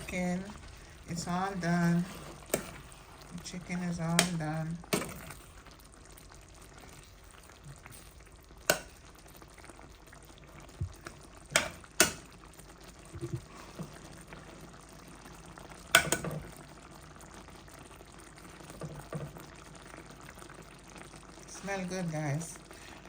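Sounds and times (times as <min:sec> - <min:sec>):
faint simmer: 0:00.0 - 0:23.0.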